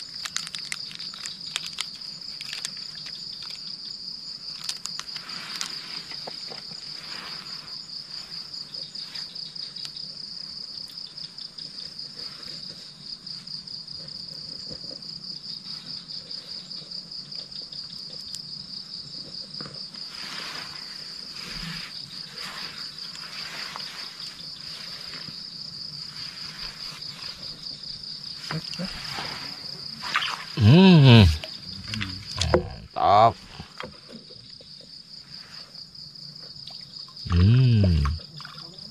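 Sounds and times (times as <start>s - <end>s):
night insects chirping: 0.0s - 38.9s.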